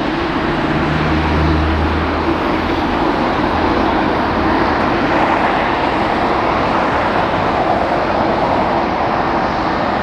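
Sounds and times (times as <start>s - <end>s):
jet engines running: 0.0s - 10.0s.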